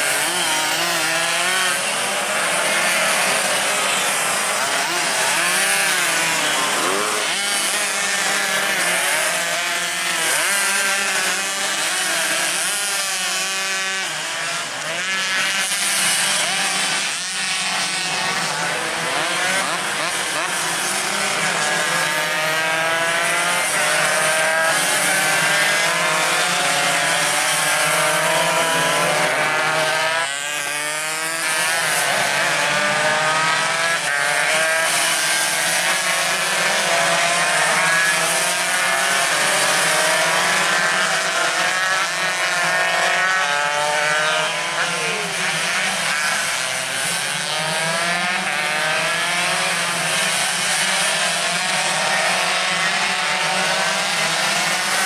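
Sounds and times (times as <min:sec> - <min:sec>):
racing motorcycles at high revs: 0:00.0 - 0:55.0.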